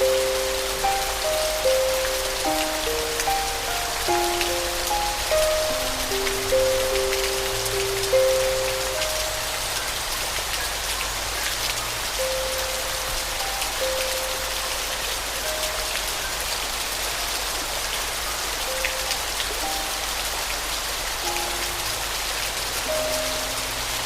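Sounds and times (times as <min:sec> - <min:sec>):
soft piano melody: 0:00.0 - 0:24.0
steady rain falling: 0:00.0 - 0:24.0.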